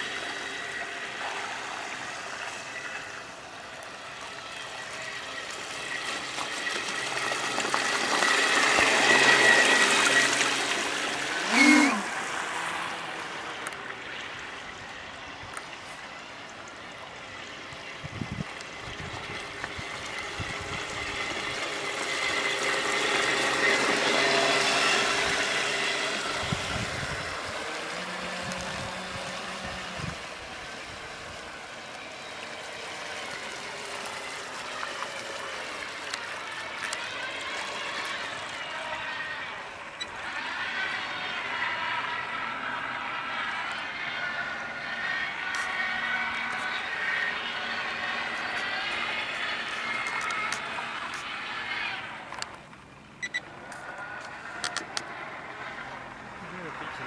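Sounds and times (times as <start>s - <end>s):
model boat motor whining: 0.0s - 57.0s
water rushing past hull: 0.0s - 57.0s.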